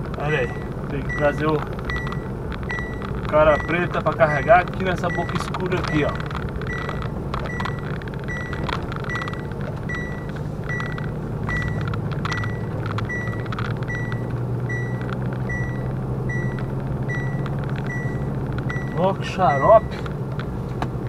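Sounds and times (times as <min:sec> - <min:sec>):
truck engine running: 0:00.0 - 0:21.0
high warning beeps: 0:00.3 - 0:20.0.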